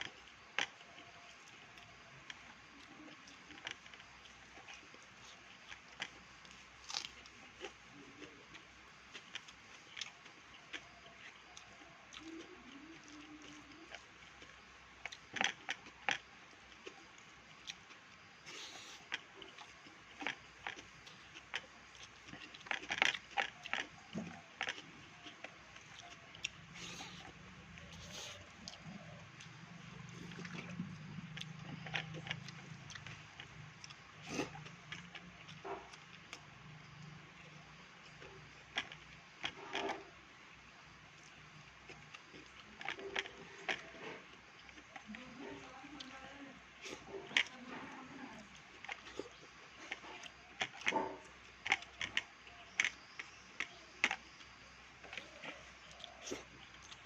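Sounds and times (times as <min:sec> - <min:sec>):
chewing: 0:00.0 - 0:57.0.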